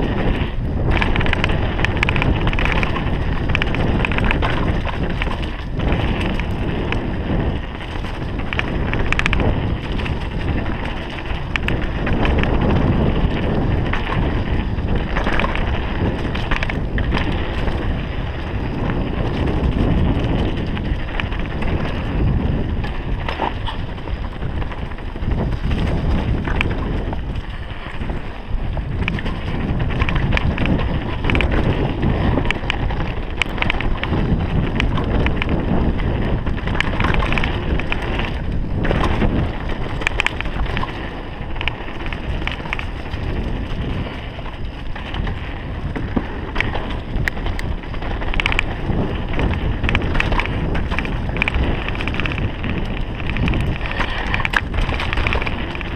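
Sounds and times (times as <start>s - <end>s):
bike rattling clicks: 0.0s - 55.9s
bike tyre noise: 0.0s - 55.9s
wind rushing over microphone: 0.0s - 55.9s.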